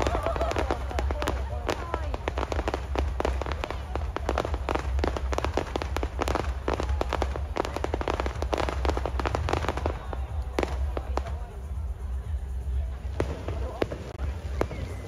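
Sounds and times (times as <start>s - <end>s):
fireworks crackling and popping: 0.0s - 15.0s
low rumble: 0.0s - 15.0s.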